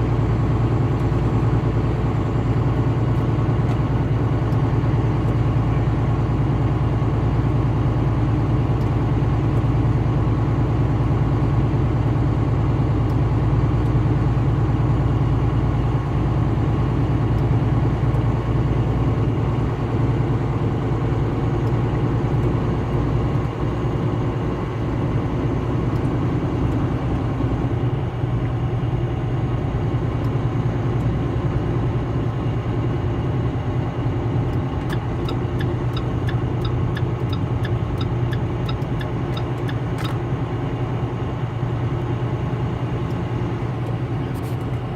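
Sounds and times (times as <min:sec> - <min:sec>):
vehicle engine and road noise: 0:00.0 - 0:44.9.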